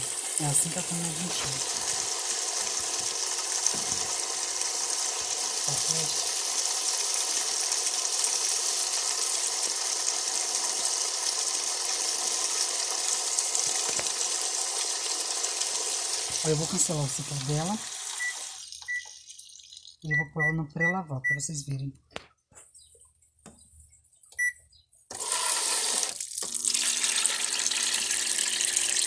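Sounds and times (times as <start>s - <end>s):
water pouring into washing machine: 0.0s - 20.2s, 25.1s - 29.0s.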